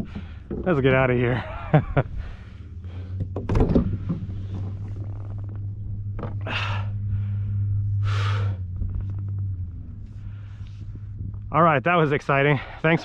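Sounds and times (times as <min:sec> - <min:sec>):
pedal drive humming: 0:00.0 - 0:13.0.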